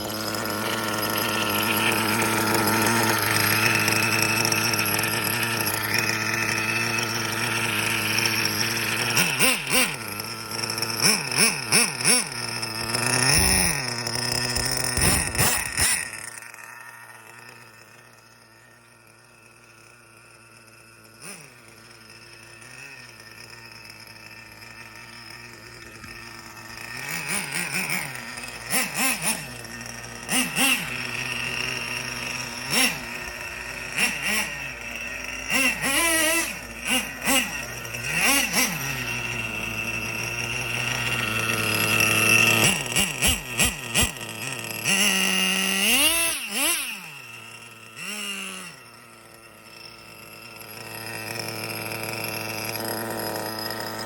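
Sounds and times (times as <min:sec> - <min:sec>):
model car engine revving: 0:00.0 - 0:54.0.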